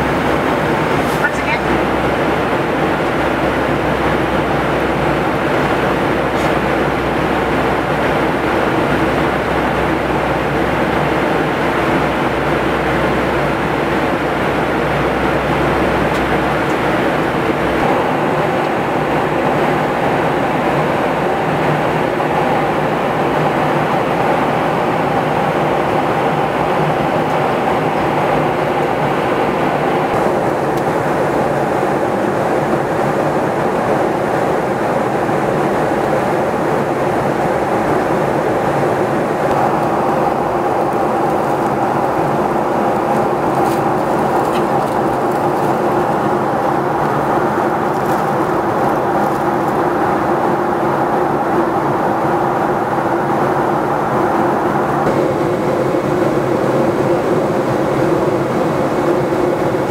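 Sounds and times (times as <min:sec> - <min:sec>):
jet airliner cabin drone: 0:00.0 - 0:59.9.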